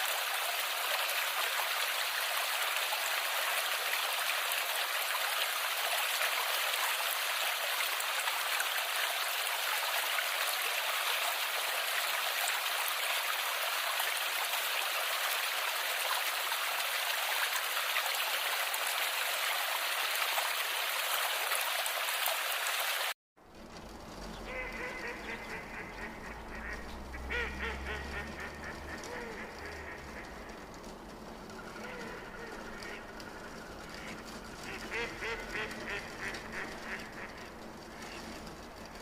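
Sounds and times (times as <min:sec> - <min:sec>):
running water rushing: 0:00.0 - 0:39.0.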